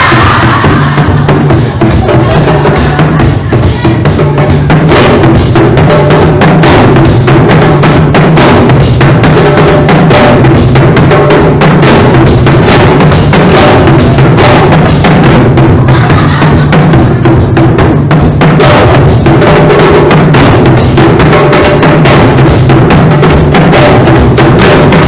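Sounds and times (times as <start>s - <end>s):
djembes drumming: 0.0s - 25.0s.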